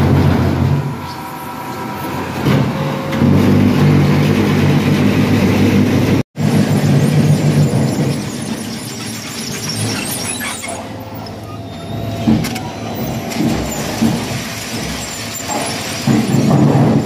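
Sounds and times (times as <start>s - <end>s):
machinery rumbling: 0.0s - 17.0s.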